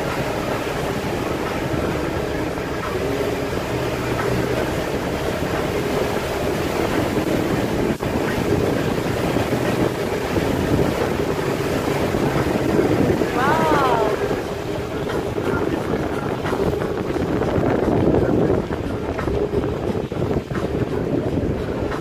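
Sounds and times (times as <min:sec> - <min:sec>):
motorboat engine running: 0:00.0 - 0:22.0
water rushing past hull: 0:00.0 - 0:22.0
wind buffeting microphone: 0:00.0 - 0:22.0.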